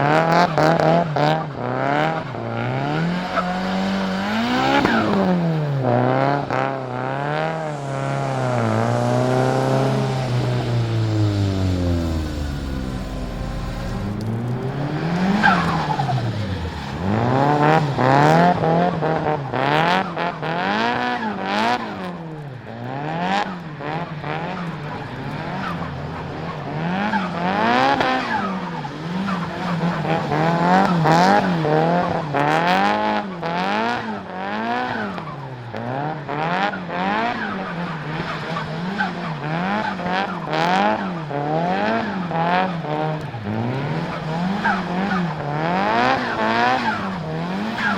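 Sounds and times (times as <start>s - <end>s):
car engine revving: 0.0s - 47.9s
tyres skidding on wet tarmac: 0.0s - 47.9s.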